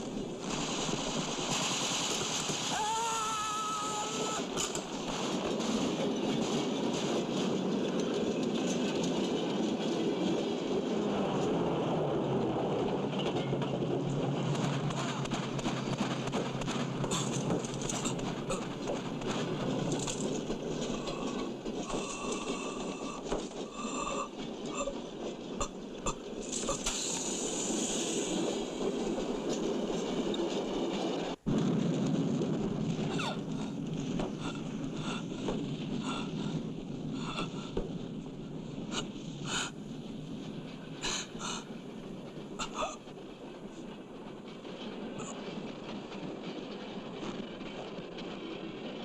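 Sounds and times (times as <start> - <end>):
train rumbling and clattering: 0.0 - 49.0.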